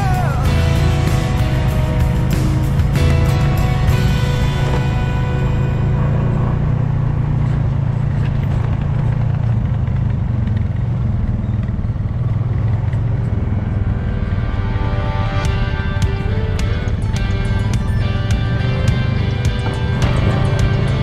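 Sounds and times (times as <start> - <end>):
atv engine droning: 0.0 - 21.0.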